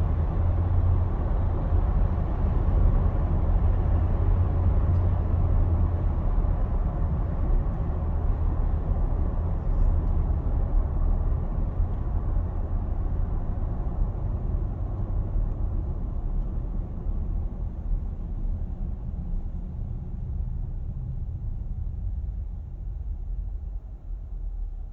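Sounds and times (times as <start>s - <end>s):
engine low rumble: 0.0s - 24.9s.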